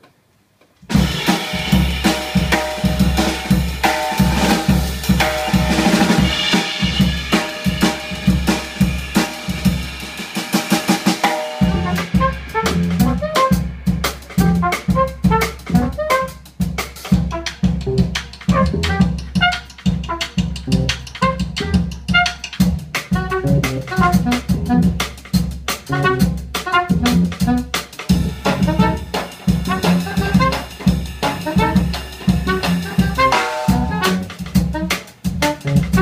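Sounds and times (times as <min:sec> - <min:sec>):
drum kit: 0:00.8 - 0:36.0
live jazz combo playing: 0:00.9 - 0:36.0.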